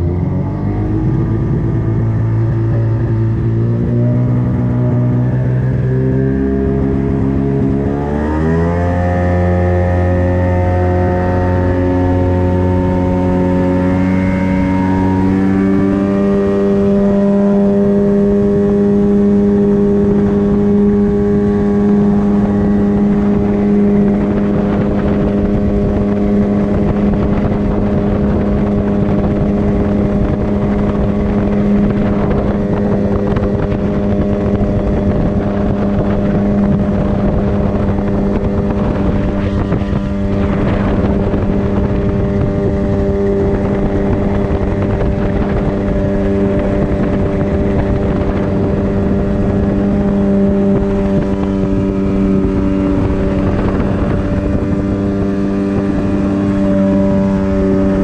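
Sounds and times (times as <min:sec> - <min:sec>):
two-stroke boat engine running: 0:00.0 - 0:58.0
hiss of water and wind: 0:09.9 - 0:58.0.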